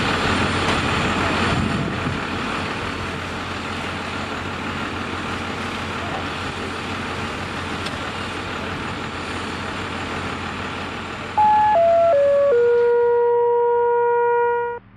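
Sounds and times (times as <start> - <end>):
truck engine idling: 0.0 - 14.9.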